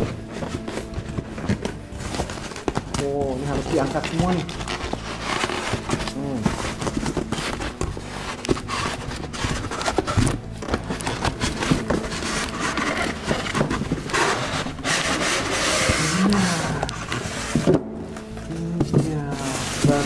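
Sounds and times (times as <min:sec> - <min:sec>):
packing rubbing and scraping: 0:00.0 - 0:20.0.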